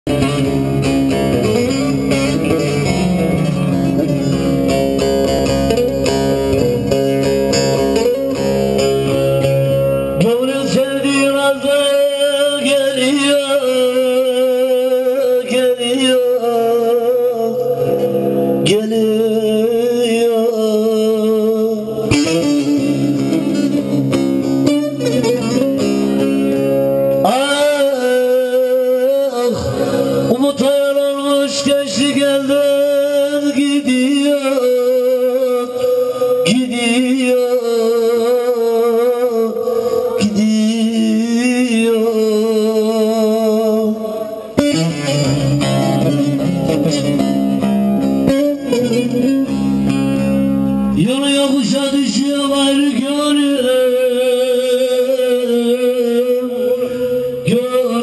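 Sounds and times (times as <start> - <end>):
long-necked lute playing: 0.1 - 43.1, 43.9 - 57.9.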